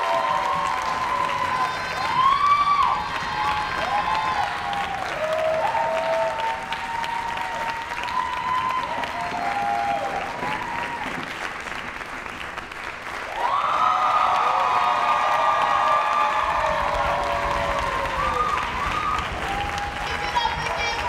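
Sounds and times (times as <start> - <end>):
long drawn-out whoops: 0.0 - 11.2, 13.3 - 20.2
audience clapping: 0.0 - 21.0.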